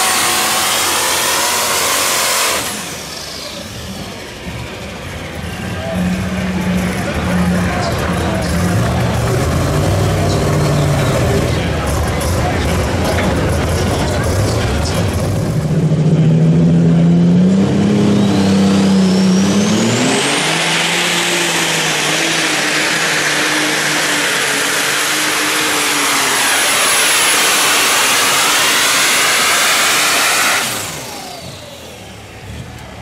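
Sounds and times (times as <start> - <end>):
diesel engine throttling up: 0.0 - 33.0.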